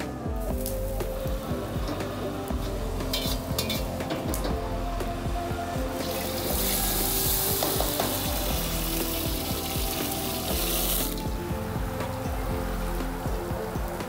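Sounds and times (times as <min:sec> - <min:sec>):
background music: 0:00.0 - 0:14.0
wok sizzling: 0:00.0 - 0:14.0.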